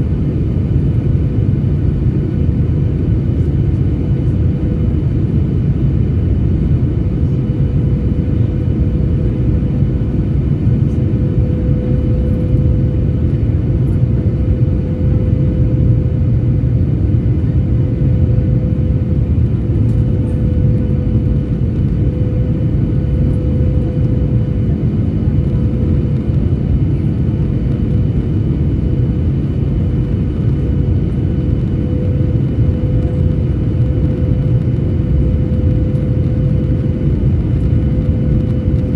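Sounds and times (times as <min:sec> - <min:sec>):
jet cabin engine drone: 0:00.0 - 0:38.9.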